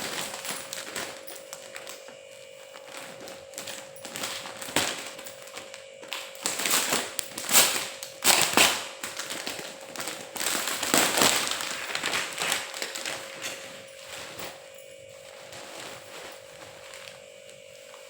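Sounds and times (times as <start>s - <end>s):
crackling rustling noise: 0.0s - 18.0s.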